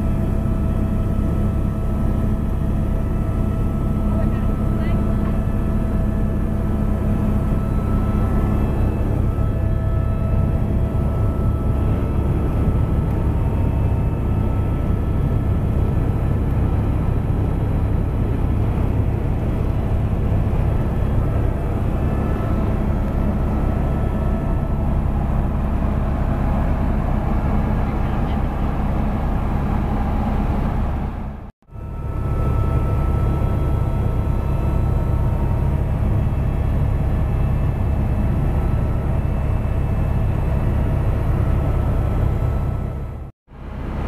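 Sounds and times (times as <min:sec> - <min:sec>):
helicopter engine and rotor drone: 0:00.0 - 0:44.0.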